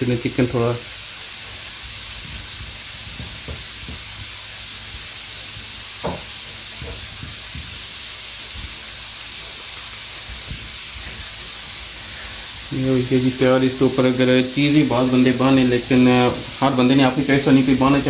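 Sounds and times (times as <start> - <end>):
fries sizzling in oil: 0.0 - 18.0.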